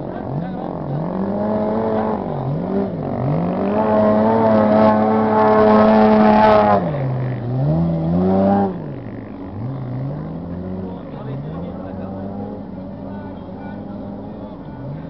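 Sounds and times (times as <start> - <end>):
race truck engine revving: 0.0 - 15.0.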